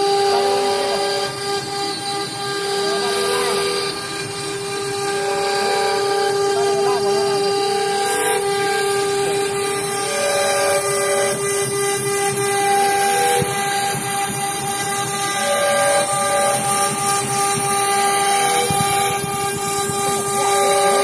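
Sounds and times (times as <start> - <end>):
cnc router spindle whining: 0.0 - 21.0
hiss of cutting: 0.0 - 21.0.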